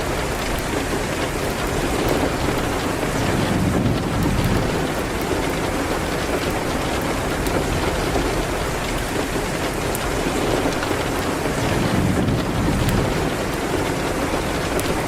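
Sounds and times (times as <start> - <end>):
rain hitting a window: 0.0 - 15.0.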